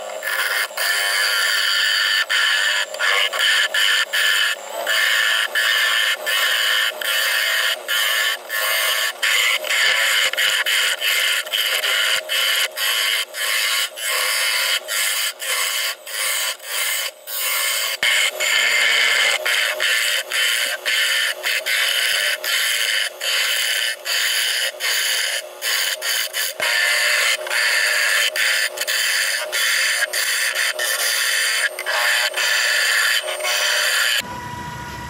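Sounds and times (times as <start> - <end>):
gouge scraping wood on lathe: 0.0 - 34.2.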